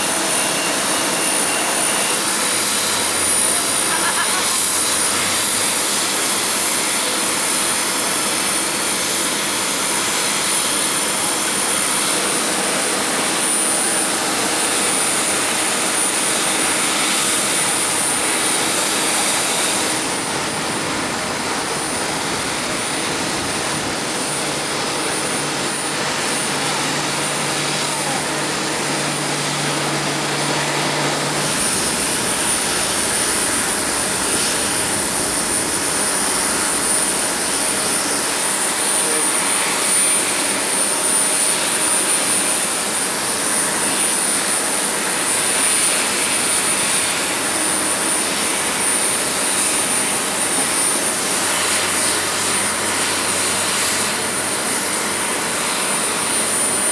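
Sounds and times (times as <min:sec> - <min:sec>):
jet turbine roar with high whine: 0:00.0 - 0:56.9.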